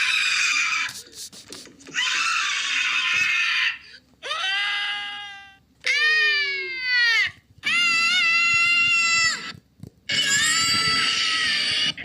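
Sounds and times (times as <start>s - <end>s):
harsh raspy cartoon screams: 0.0s - 1.0s, 1.9s - 9.5s, 10.1s - 12.0s.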